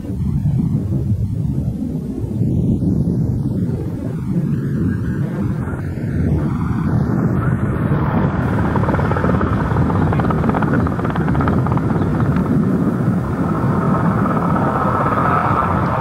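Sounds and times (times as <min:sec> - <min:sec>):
aircraft engine rumble: 0:00.0 - 0:16.0.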